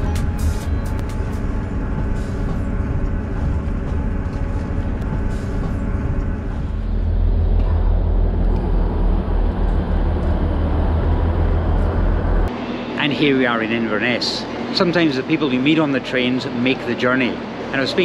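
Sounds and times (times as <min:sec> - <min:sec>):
diesel train rumbling: 0:00.0 - 0:18.0.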